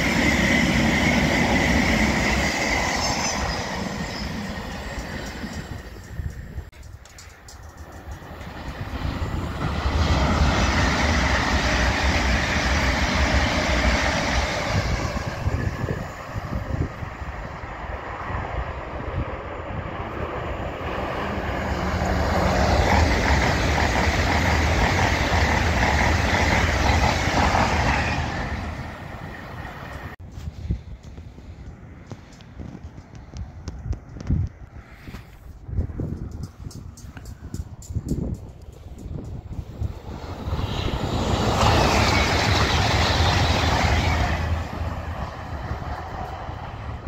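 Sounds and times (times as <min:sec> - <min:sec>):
electric trains rushing past: 0:00.0 - 0:30.6, 0:31.3 - 0:47.0.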